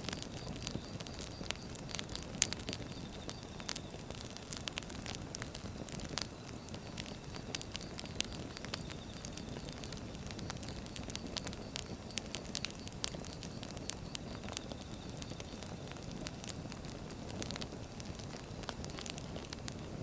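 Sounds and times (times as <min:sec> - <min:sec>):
logs crackling and popping: 0:00.0 - 0:20.0
low fire rumble: 0:00.0 - 0:20.0.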